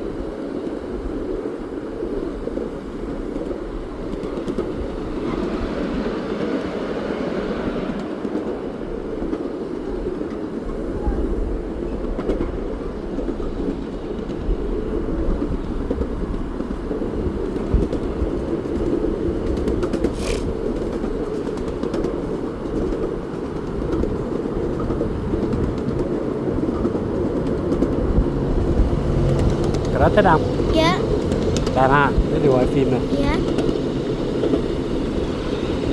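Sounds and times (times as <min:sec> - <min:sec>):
steam train rumbling on track: 0:00.0 - 0:35.9.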